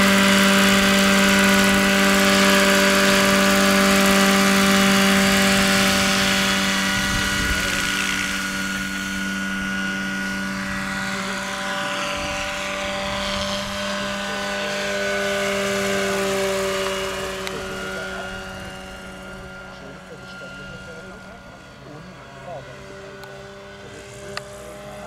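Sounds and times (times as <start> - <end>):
electric motor hum: 0.0 - 25.0
helicopter rotors whirring: 0.0 - 25.0.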